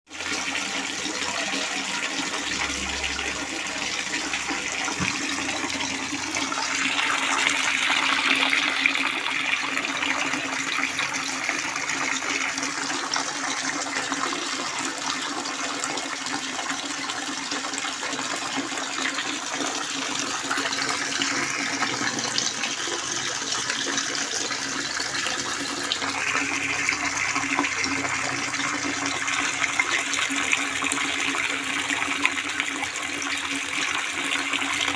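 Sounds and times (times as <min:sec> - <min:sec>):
water pouring and splashing: 0:00.1 - 0:34.9.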